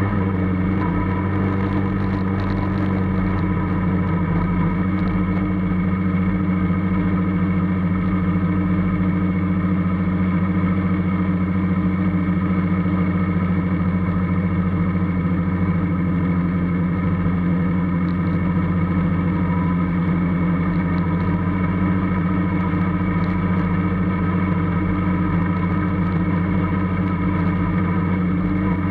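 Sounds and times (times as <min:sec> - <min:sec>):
race car engine droning: 0:00.0 - 0:28.9.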